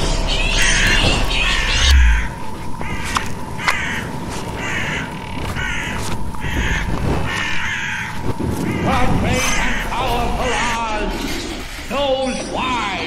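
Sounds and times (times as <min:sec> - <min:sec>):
crows cawing: 0:00.3 - 0:11.1.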